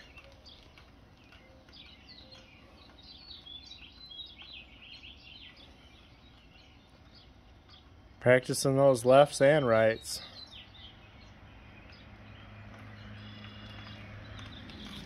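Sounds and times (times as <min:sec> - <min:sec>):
faint birds chirping: 0:00.0 - 0:15.0
low outdoor background noise: 0:00.0 - 0:15.0.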